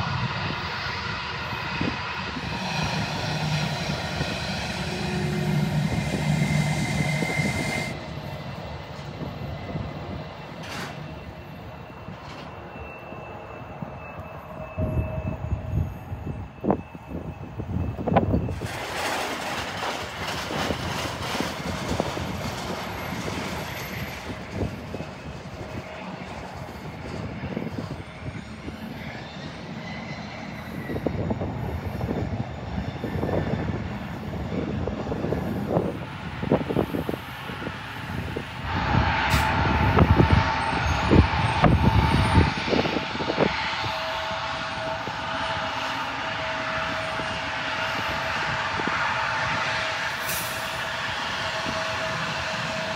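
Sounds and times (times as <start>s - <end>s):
jet engine whine: 0.0s - 52.9s
jet engines roaring: 0.0s - 52.9s.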